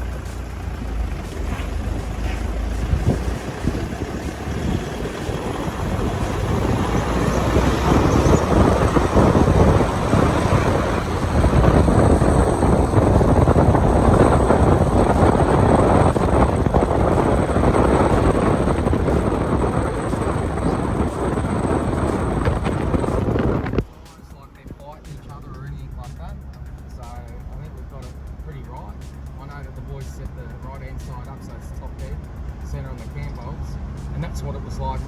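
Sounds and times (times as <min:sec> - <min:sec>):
road and tyre noise inside car: 0:00.0 - 0:35.0.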